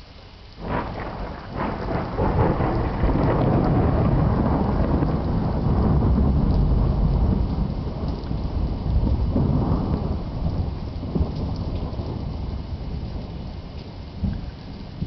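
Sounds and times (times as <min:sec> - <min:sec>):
steady rain: 0:00.0 - 0:15.0
rumble of thunder: 0:00.6 - 0:15.0.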